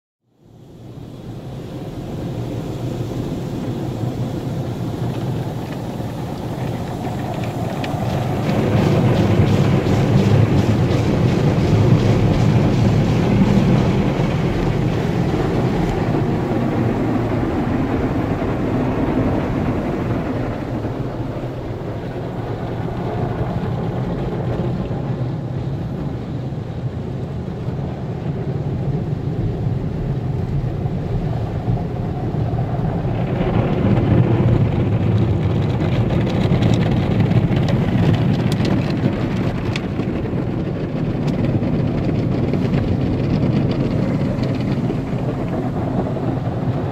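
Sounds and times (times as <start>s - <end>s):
water spraying on car: 0.5s - 46.9s.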